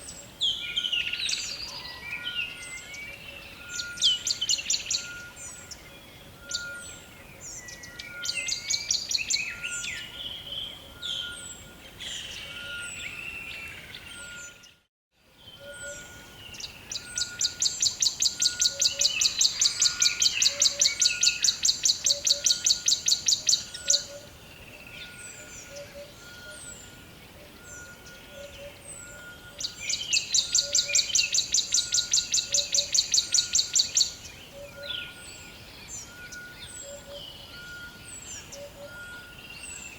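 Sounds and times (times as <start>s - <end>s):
birds chirping and whistling: 0.0s - 14.8s, 15.5s - 39.9s.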